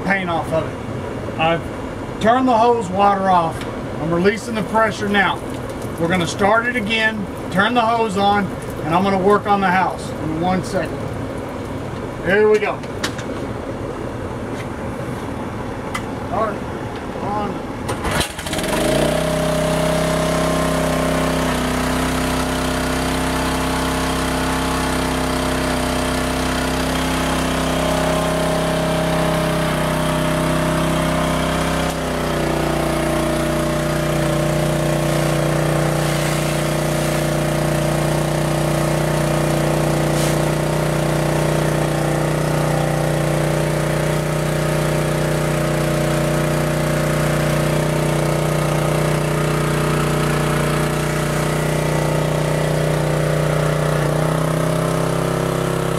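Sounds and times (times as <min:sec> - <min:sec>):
pressure washer engine running: 0:00.0 - 0:14.3, 0:17.6 - 0:55.9.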